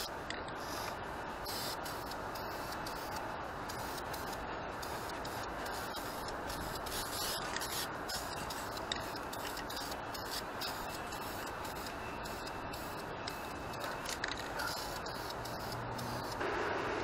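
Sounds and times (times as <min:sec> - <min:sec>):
spray can hissing: 0:00.0 - 0:16.4
steady background noise: 0:00.0 - 0:17.0.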